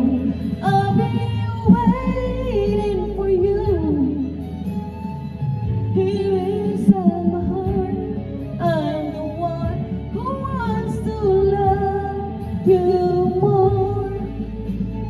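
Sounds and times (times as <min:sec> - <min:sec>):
woman singing into microphone: 0:00.0 - 0:04.8, 0:05.6 - 0:15.0
recorded backing music: 0:00.0 - 0:15.0.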